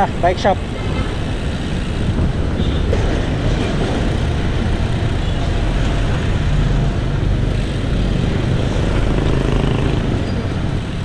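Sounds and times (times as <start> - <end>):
car traffic: 0.0 - 11.0
road noise: 0.0 - 11.0.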